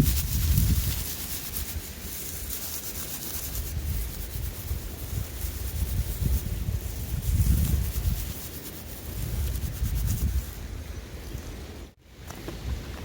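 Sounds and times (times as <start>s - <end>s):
steady hiss: 0.0s - 13.0s
wind buffeting microphone: 0.0s - 13.0s.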